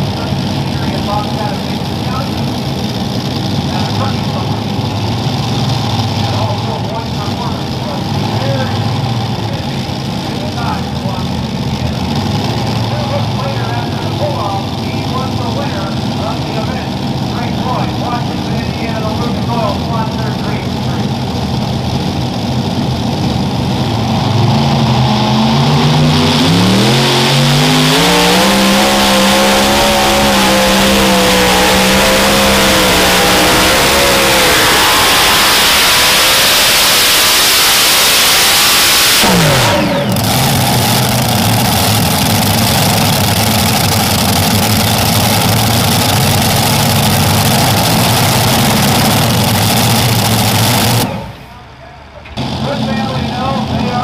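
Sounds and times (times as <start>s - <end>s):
pulling tractor engines revving: 0.0s - 54.0s.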